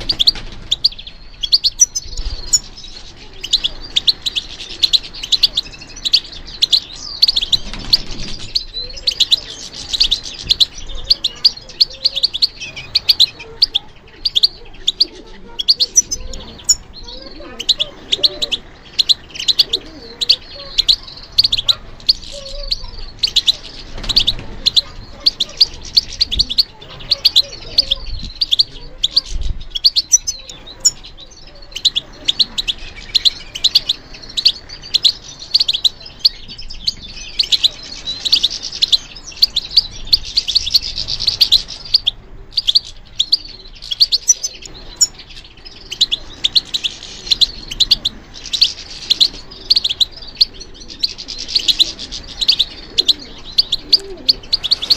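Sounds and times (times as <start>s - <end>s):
bird twittering and trilling: 0.0s - 54.9s.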